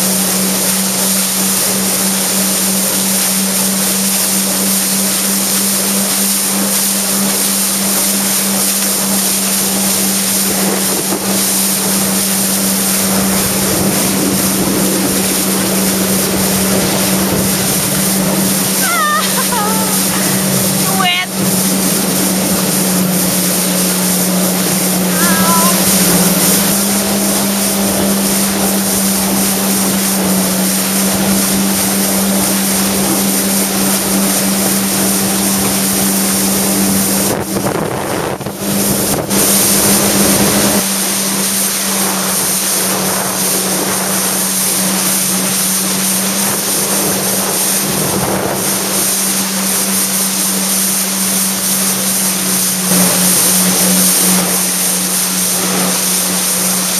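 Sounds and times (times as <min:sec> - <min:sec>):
jet ski engine drone: 0:00.0 - 0:56.9
wind and water rushing: 0:00.0 - 0:56.9.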